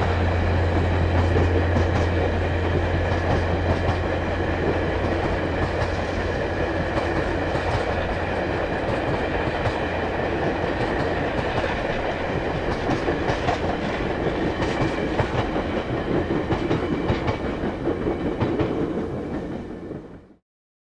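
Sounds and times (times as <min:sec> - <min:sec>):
wheels clicking over rail joints: 0:00.0 - 0:20.1
train cars rumbling past: 0:00.0 - 0:20.4.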